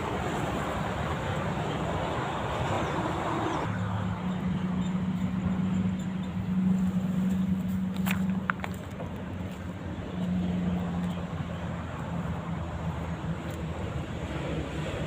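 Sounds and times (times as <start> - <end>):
vehicle engine hum passing: 0.0 - 15.0.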